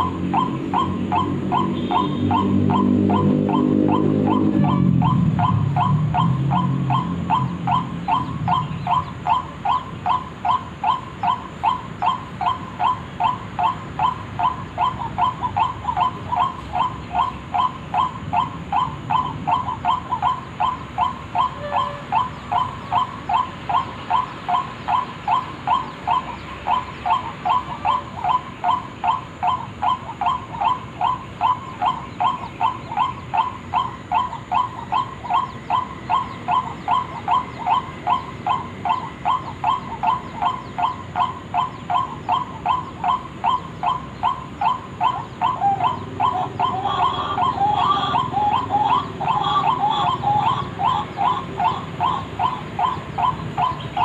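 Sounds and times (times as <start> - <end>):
irregular bird call: 0.0 - 54.0
waterhen repeated call: 0.0 - 54.0.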